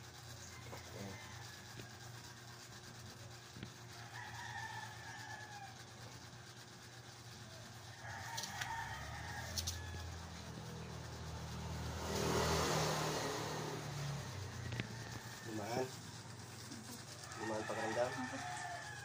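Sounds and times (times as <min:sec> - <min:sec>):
steady low hum: 0:00.0 - 0:19.0
rooster crowing: 0:00.3 - 0:02.3, 0:03.9 - 0:06.2, 0:07.5 - 0:19.0.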